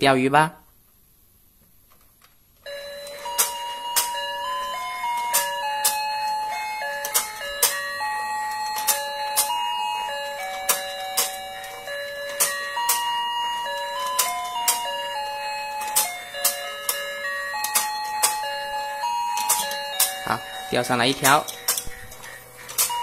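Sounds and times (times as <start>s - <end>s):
toy beeping melody: 2.6s - 23.0s.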